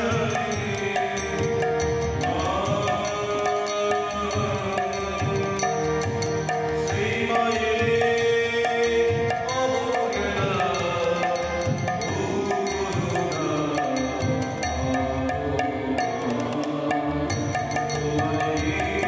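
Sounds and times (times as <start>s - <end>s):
harmonium chords: 0.0s - 19.0s
man singing a chant: 0.0s - 19.0s.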